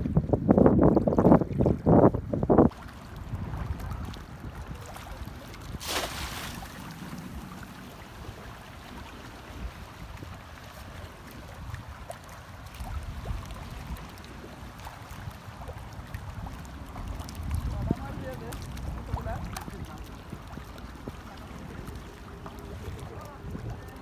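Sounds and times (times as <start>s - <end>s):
wind rumbling on microphone: 0.0s - 24.0s
sea water washing: 2.6s - 24.0s.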